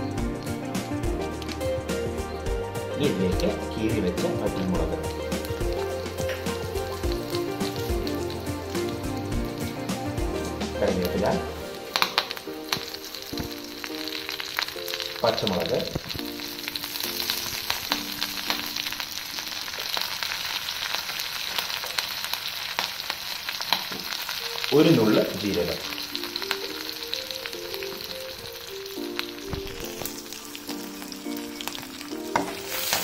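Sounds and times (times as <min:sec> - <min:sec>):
spices crackling in hot oil: 0:00.0 - 0:33.0.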